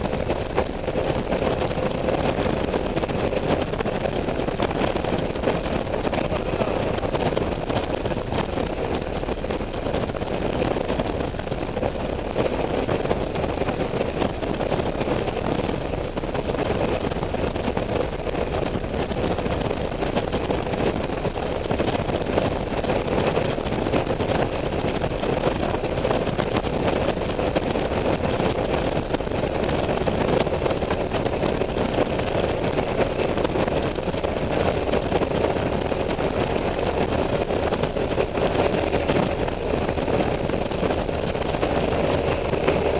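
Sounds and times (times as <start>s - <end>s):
scooter engine drone: 0.0s - 42.9s
wind and road noise: 0.0s - 42.9s.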